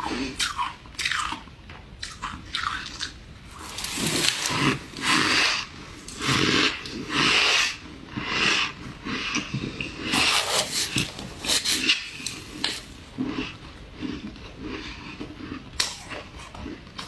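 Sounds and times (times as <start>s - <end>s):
ice being chewed and crunched: 0.0s - 17.0s.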